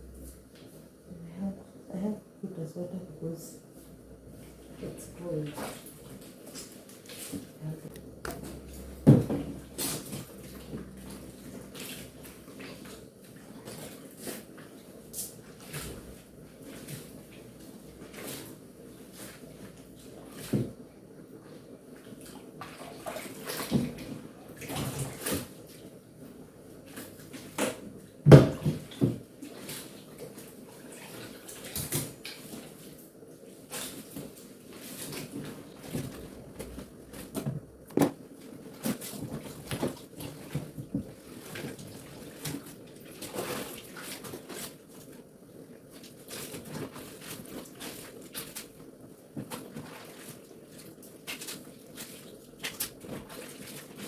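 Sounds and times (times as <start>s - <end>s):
wet clothes sloshing in water: 3.7s - 54.0s.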